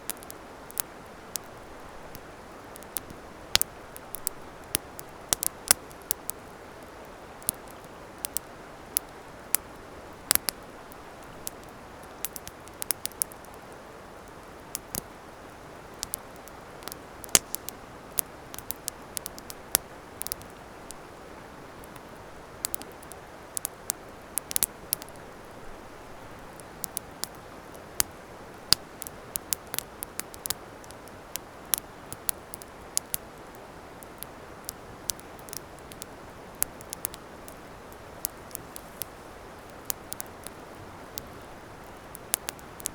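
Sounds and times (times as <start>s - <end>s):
campfire crackling and popping: 0.0s - 42.9s
soft fire hiss: 0.0s - 42.9s.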